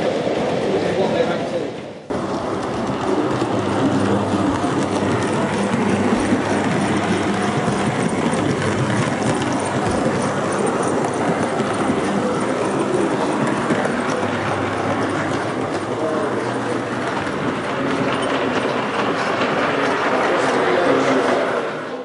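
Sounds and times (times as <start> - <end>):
model train wheels clattering on rail: 2.1 - 22.0.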